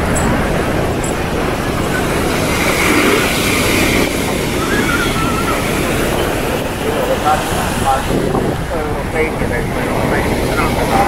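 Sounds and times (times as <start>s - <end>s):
people talking: 0.0s - 11.0s
surf breaking on shoreline: 0.0s - 11.0s
wind noise on microphone: 0.0s - 11.0s.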